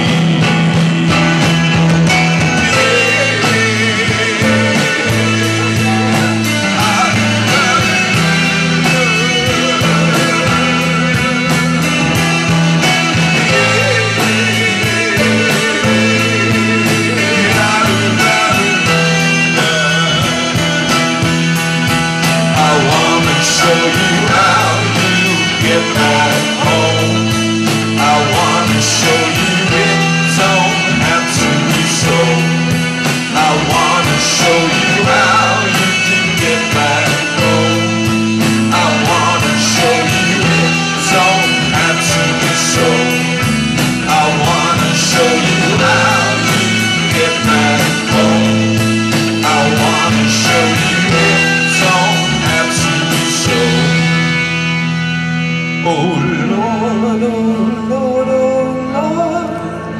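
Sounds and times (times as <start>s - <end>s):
electric guitars ringing: 0.0s - 59.9s
rock band playing: 0.0s - 59.9s.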